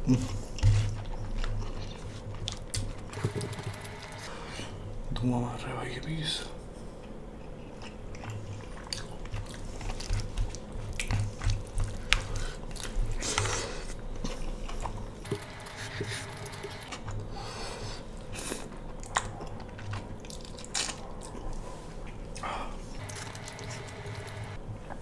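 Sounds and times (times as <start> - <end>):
person chewing food: 0.1 - 3.6, 7.0 - 25.0.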